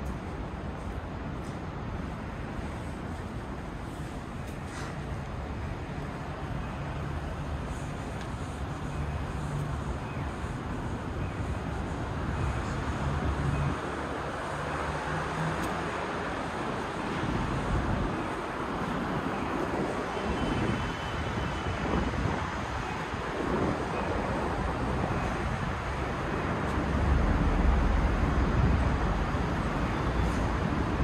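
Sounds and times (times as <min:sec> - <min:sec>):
road traffic noise: 0:00.0 - 0:31.0.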